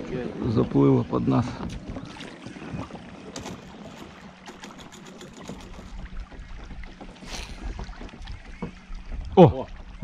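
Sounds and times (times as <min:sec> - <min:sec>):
water lapping against boat hull: 0:00.0 - 0:10.0.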